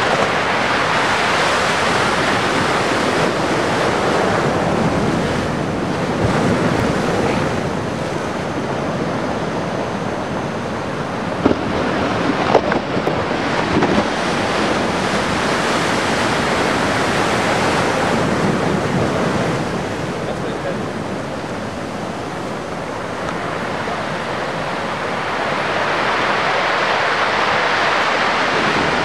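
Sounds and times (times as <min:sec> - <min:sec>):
ocean waves breaking: 0:00.0 - 0:29.0
wind on microphone: 0:00.0 - 0:29.0.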